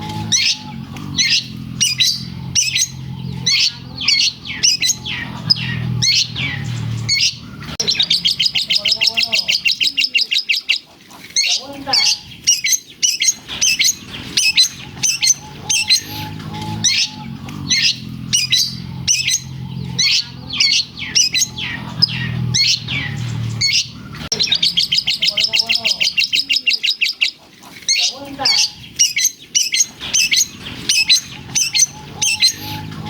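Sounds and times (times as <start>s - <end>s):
bird singing sharp high chirps: 0.0s - 33.0s.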